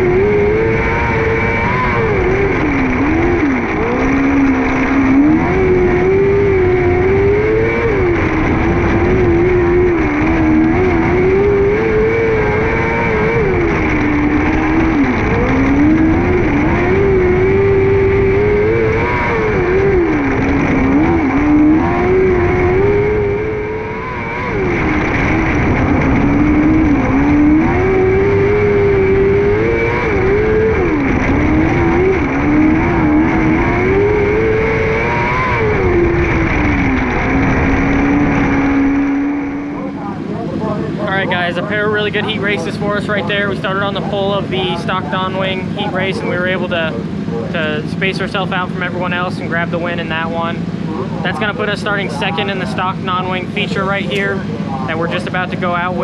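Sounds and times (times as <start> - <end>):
racing motorcycle engine revving: 0.0 - 56.0.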